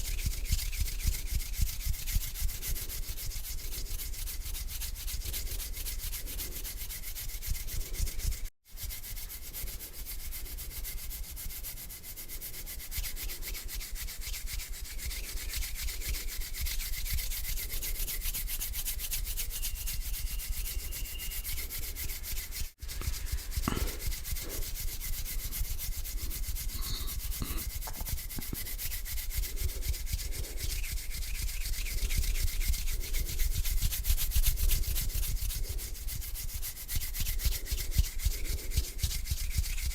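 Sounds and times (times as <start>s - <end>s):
hands rubbing together: 0.0s - 39.9s.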